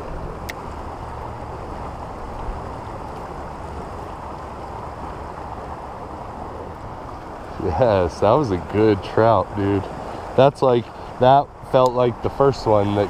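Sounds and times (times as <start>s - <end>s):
river water rushing through rapids: 0.0s - 13.0s.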